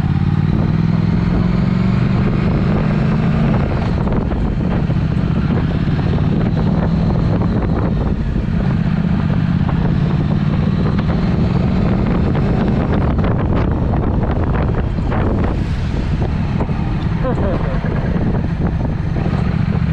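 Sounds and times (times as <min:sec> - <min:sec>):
motorcycle engine running: 0:00.0 - 0:19.9
wind noise on microphone: 0:00.0 - 0:19.9.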